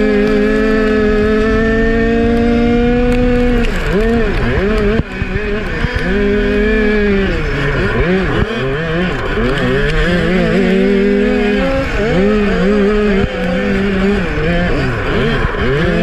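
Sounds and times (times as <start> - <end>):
kart engine revving: 0.0 - 16.0.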